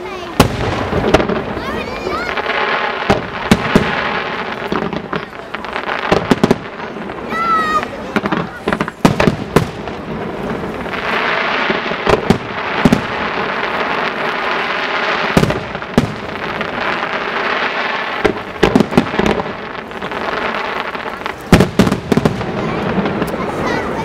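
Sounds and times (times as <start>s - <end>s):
continuous hiss: 0.0s - 24.0s
fireworks bursting with bangs: 0.0s - 24.0s.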